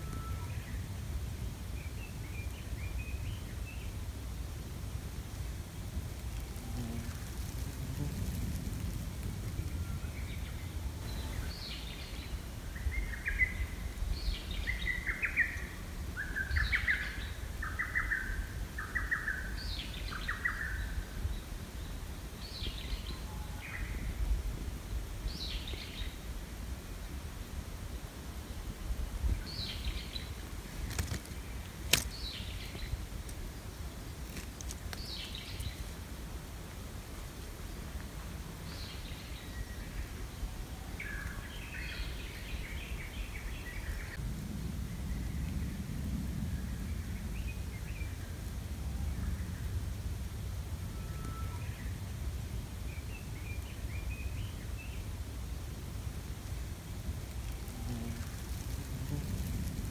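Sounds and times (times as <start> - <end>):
songbird singing: 0.0 - 4.0, 5.4 - 26.3, 28.4 - 36.0, 37.2 - 50.0, 50.8 - 55.3, 57.0 - 59.9
wind rumble: 0.0 - 59.9.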